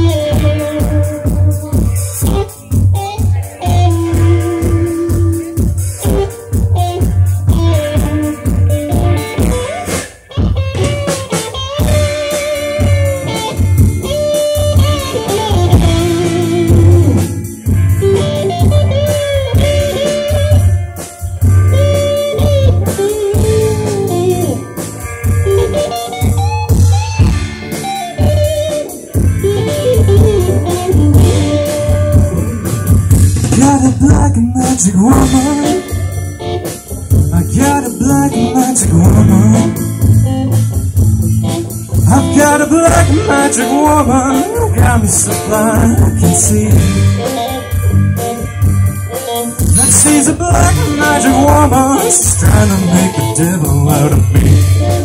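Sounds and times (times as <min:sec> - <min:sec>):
bending lead guitar line: 0:00.0 - 0:55.0
live blues-rock band playing: 0:00.0 - 0:55.0.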